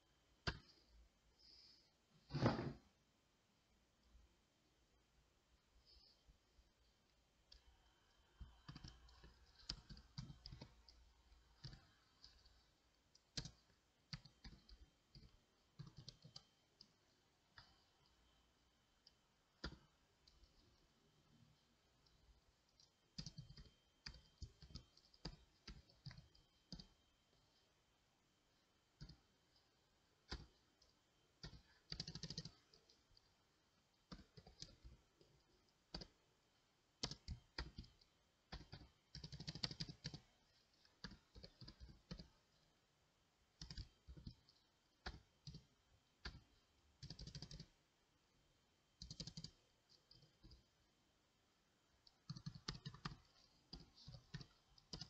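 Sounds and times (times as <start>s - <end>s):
faint keyboard typing: 0.4s - 1.8s, 5.8s - 27.8s, 28.5s - 47.9s, 48.9s - 50.8s, 51.9s - 55.0s.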